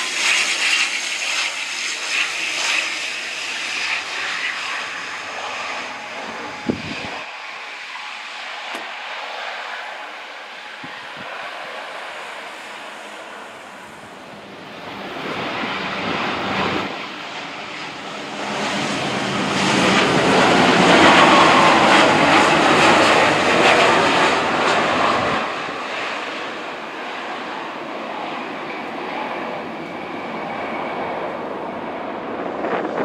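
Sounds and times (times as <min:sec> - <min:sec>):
jet airliner landing: 0:00.0 - 0:33.0
low rumble on runway: 0:02.4 - 0:33.0.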